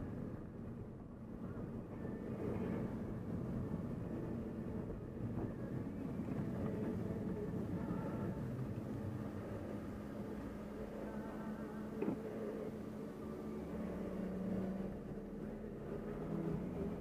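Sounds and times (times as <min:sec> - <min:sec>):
car engine and road noise hum: 0:00.0 - 0:17.0.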